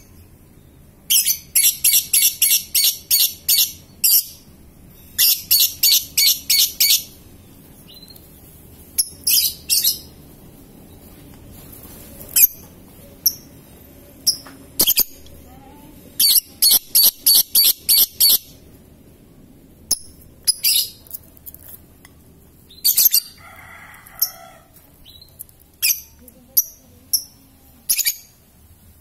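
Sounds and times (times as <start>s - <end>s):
lovebirds chirping: 0.0s - 18.8s, 19.9s - 21.7s, 22.5s - 23.6s, 24.2s - 29.0s.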